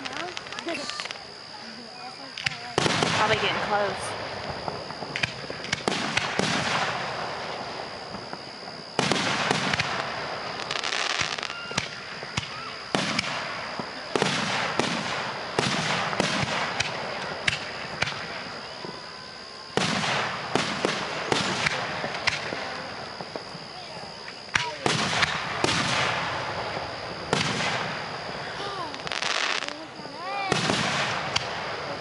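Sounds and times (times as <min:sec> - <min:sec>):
fireworks bursts: 0:00.0 - 0:32.0
fireworks crackling and popping: 0:00.0 - 0:32.0
high-pitched whine: 0:00.0 - 0:32.0.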